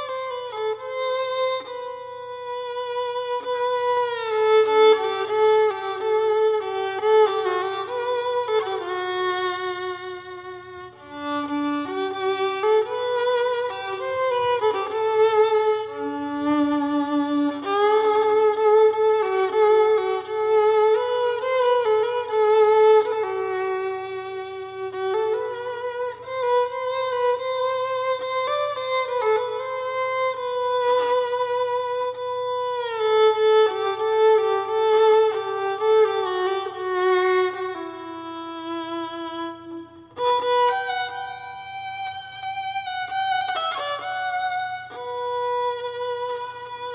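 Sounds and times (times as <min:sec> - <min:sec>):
solo violin slow melody: 0:00.0 - 0:46.9.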